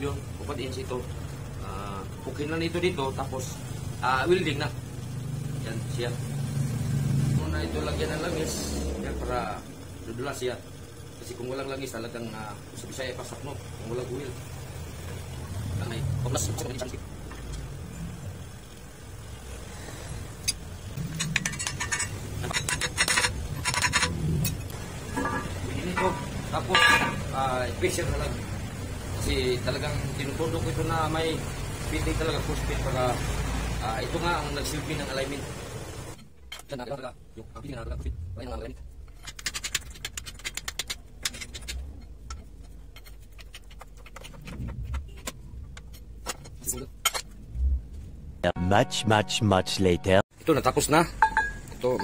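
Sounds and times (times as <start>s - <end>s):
low steady rumble: 0.0s - 48.6s.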